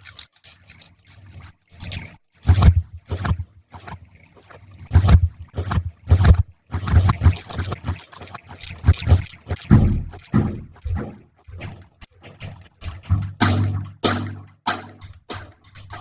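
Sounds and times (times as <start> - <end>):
low buzzing drone: 1.2 - 16.0.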